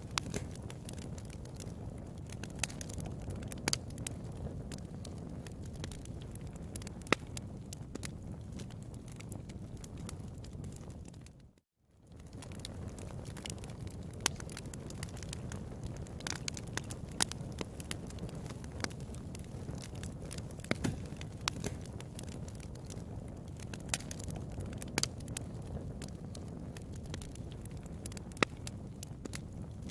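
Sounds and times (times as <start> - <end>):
fire crackling in fireplace: 0.0 - 29.9.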